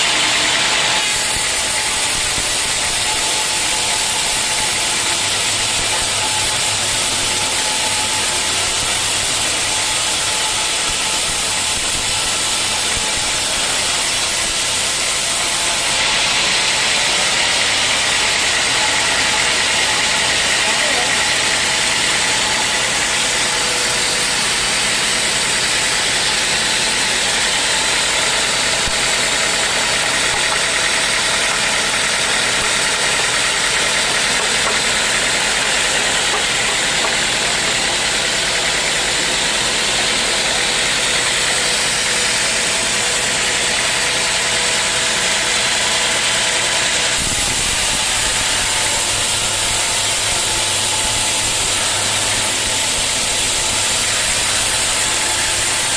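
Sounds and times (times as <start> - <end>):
sawmill machinery droning: 0.0 - 55.9.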